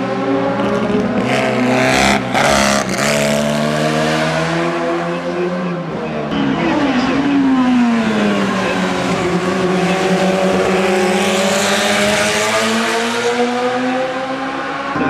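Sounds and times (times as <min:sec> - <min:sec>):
racing car engine passing: 0:00.0 - 0:15.0.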